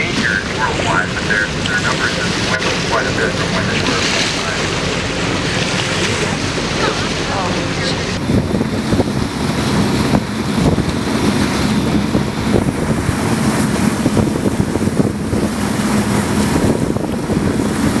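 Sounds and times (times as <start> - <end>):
boat engine hum: 0.0 - 18.0
water splashing past hull: 0.0 - 18.0
wind buffeting microphone: 0.0 - 18.0.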